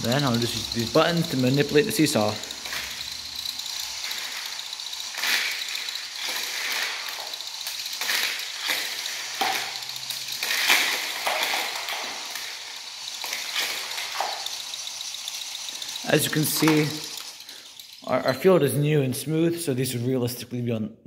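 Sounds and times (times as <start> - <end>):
plastic gears clattering: 0.0 - 18.8
flywheel whirring: 0.0 - 20.0.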